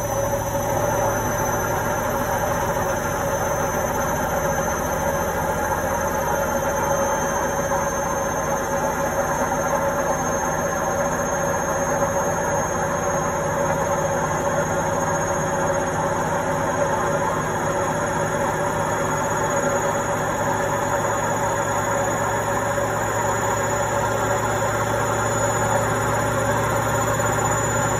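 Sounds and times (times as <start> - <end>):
washing machine running: 0.0 - 27.9.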